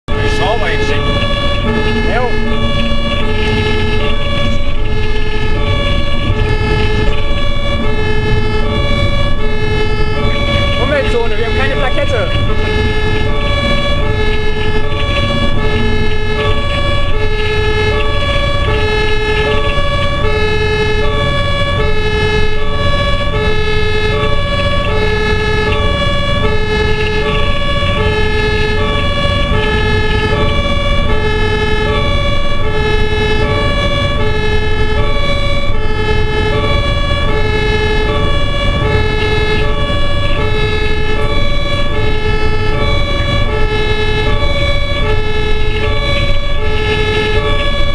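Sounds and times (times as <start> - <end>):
engine and road rumble: 0.0 - 47.9
two-tone emergency siren: 0.1 - 47.9.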